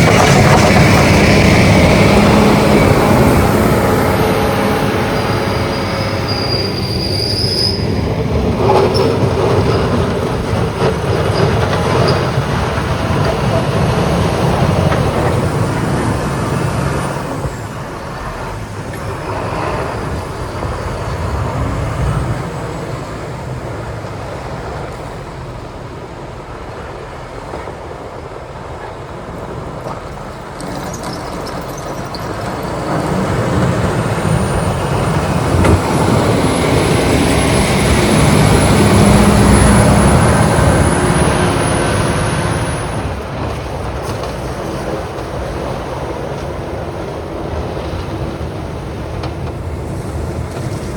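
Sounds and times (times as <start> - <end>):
diesel grader engines running: 0.0 - 50.9.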